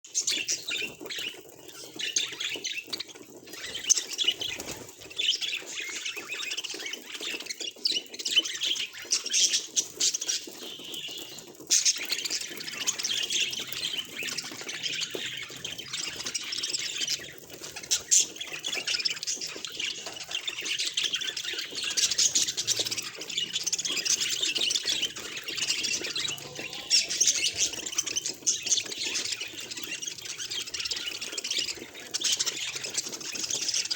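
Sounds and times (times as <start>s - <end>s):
budgerigar chatter: 0.1s - 33.9s.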